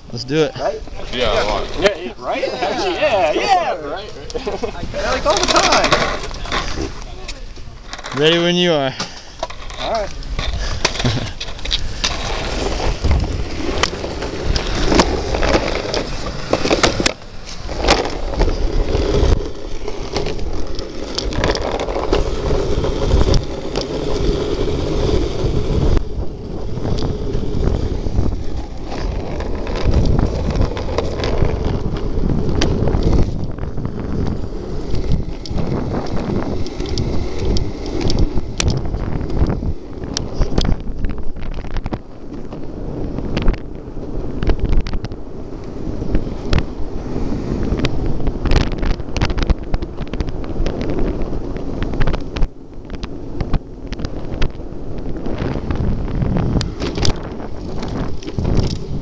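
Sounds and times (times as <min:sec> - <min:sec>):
wheels rolling fast over asphalt: 0:00.0 - 0:59.0
wind buffeting microphone: 0:00.0 - 0:59.0.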